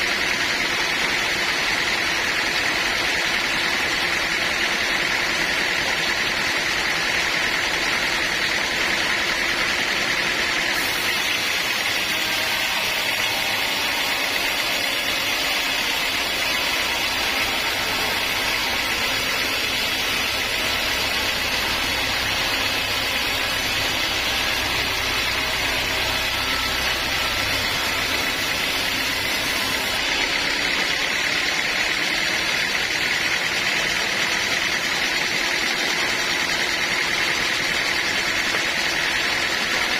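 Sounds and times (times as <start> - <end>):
sawmill sawing a log: 0.0 - 39.9.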